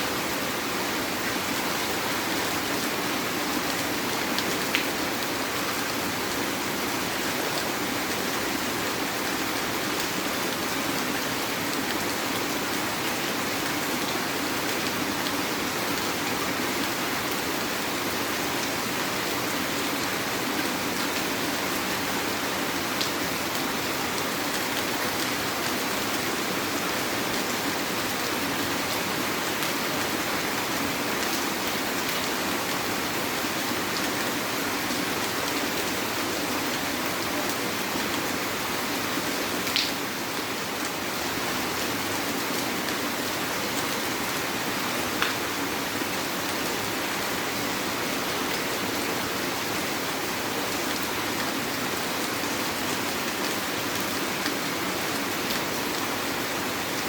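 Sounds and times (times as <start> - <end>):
heavy rain falling: 0.1 - 57.0.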